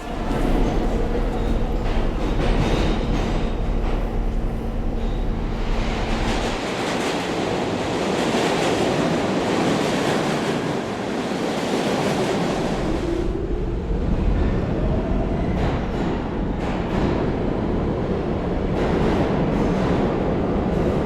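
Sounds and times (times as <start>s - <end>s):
rising whine of train: 0.0s - 21.0s
subway train running: 0.0s - 21.0s.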